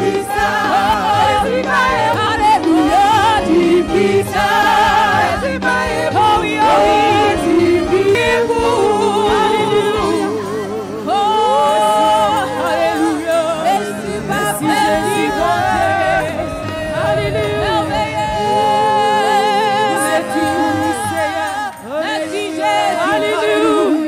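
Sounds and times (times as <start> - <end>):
gospel singing with accompaniment: 0.0 - 24.0.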